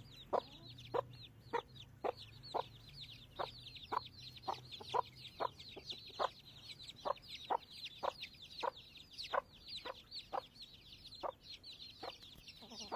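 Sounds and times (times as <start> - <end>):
chicks peeping: 0.0 - 12.9
hen clucking: 0.0 - 12.9.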